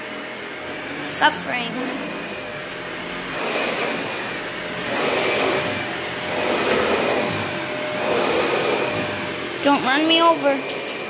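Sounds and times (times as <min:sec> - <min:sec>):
vacuum cleaner whining: 0:00.0 - 0:11.0.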